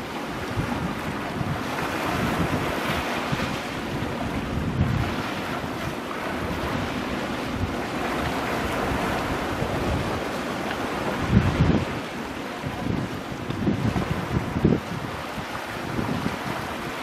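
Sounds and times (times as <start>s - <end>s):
waves breaking on rocks: 0.0s - 17.0s
wind on microphone: 0.0s - 17.0s.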